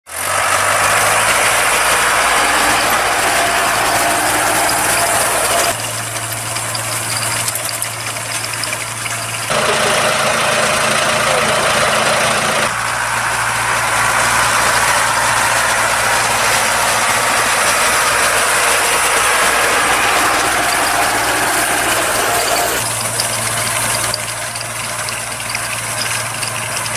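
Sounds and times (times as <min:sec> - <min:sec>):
machinery mechanical noise: 0:00.1 - 0:26.9
tractor diesel engines running: 0:00.1 - 0:26.9.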